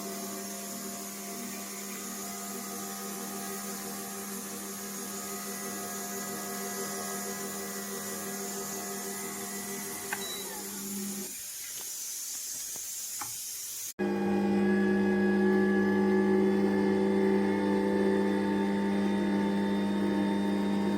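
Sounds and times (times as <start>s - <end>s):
juicer motor humming: 0.0s - 11.3s, 14.0s - 20.9s.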